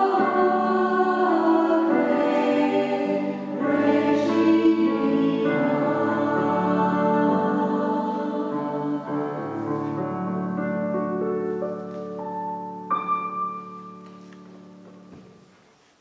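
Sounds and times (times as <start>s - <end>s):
piano chords: 0.0s - 15.6s.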